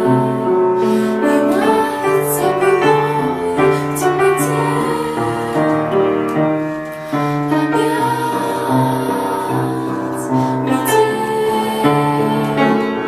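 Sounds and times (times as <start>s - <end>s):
woman singing with vibrato: 0.0s - 6.1s, 7.1s - 13.0s
piano chords: 0.0s - 13.0s.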